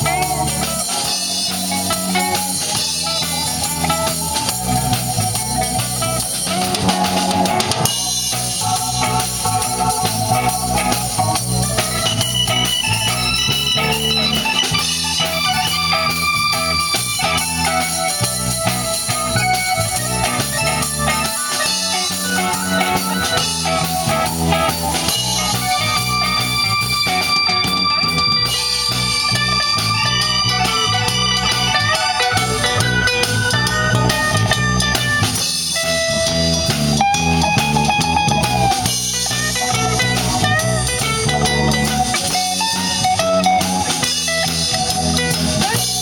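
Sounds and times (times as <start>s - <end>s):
bass line: 0.0s - 46.0s
blues band playing: 0.0s - 46.0s
guitar: 0.0s - 46.0s
organ: 0.0s - 46.0s.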